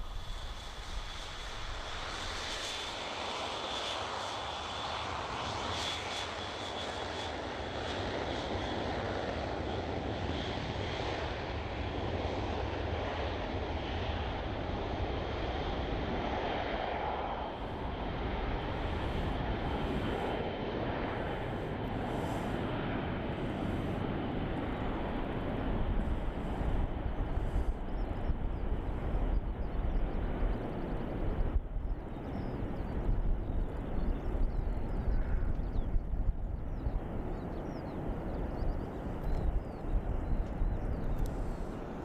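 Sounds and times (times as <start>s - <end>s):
jet engines rushing and rumbling: 0.0s - 42.0s.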